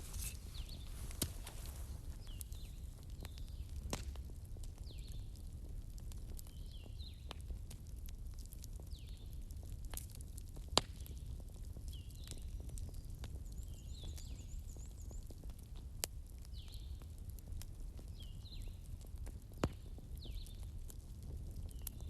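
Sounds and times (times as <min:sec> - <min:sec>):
fireplace crackling and popping: 0:00.0 - 0:22.0.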